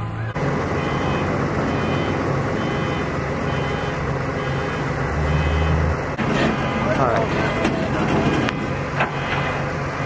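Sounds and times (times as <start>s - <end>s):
tow truck engine running: 0.0s - 10.0s
hydraulics sliding truck bed: 0.4s - 10.0s.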